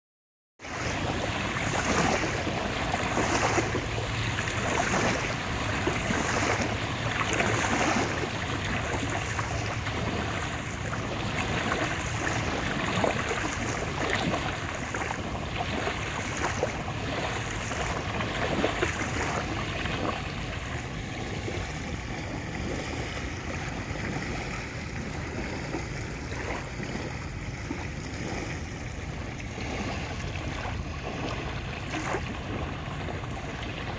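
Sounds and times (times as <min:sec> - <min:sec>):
small waves breaking on shore: 0:00.6 - 0:33.9.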